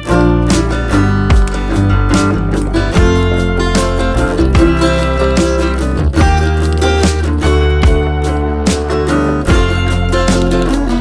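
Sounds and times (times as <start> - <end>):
steady bass: 0.0 - 11.0
strummed guitar: 0.0 - 11.0.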